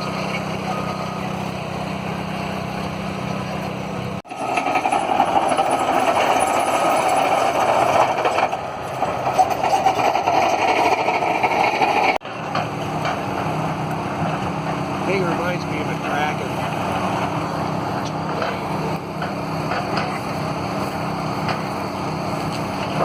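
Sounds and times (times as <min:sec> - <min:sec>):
diesel engine running: 0:00.0 - 0:23.0
rough machine noise: 0:00.0 - 0:23.0.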